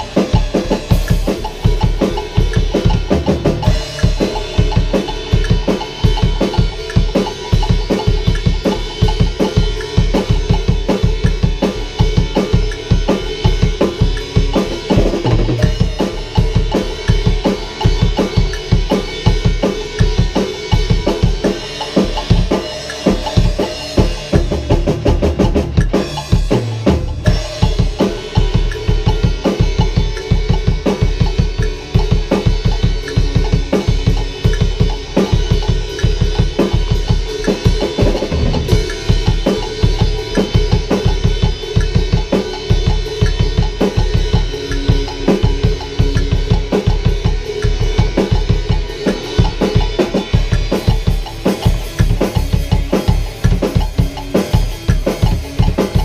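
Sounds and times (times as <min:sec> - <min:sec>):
rock drum kit played fast: 0:00.0 - 0:56.0.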